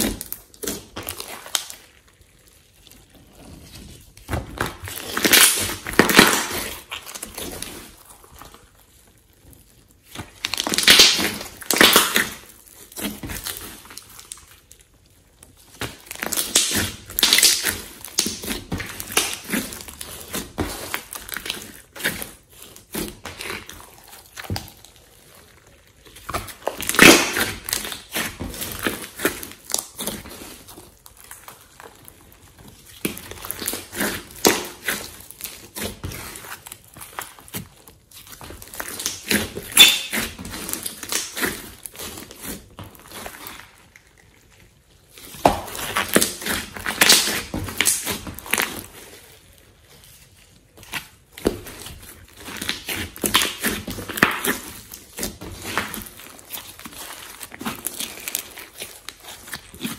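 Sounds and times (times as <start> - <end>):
slime squishing and crackling: 0.0 - 59.9.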